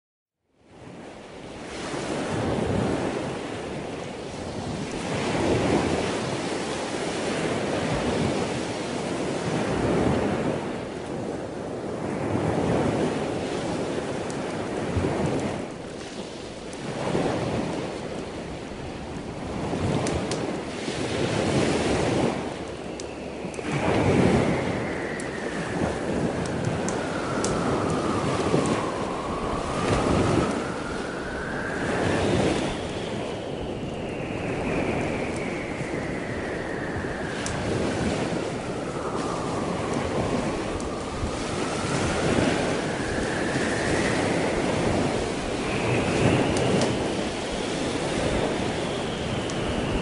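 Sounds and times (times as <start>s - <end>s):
ocean waves: 0.7s - 50.0s.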